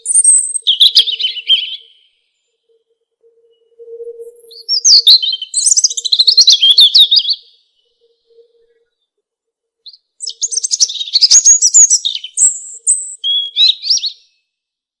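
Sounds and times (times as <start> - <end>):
robin singing: 0.0 - 9.0, 9.8 - 14.4.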